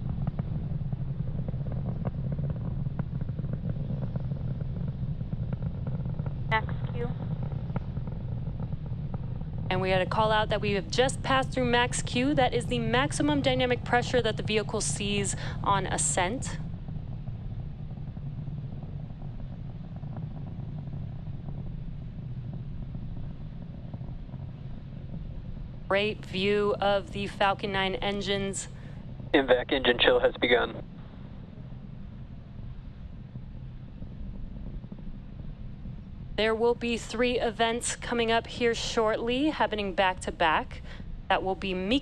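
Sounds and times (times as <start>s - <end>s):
distant rocket engine rumble: 0.0s - 42.0s
faint crackle: 0.0s - 42.0s.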